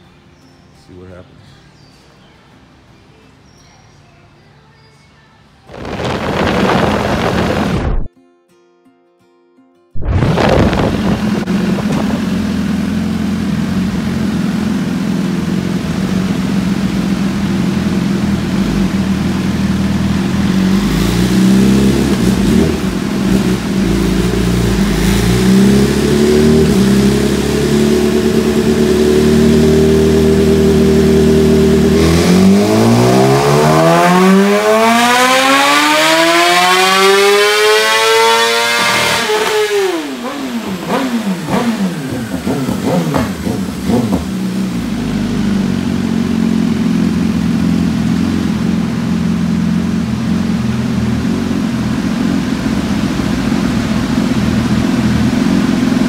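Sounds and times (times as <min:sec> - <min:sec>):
motorcycle engine revving on dyno: 0:10.4 - 0:56.0.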